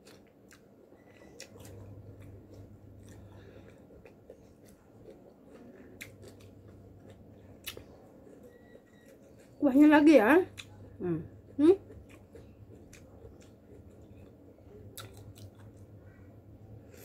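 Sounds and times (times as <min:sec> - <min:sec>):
person chewing: 0:00.0 - 0:09.6, 0:10.6 - 0:16.2.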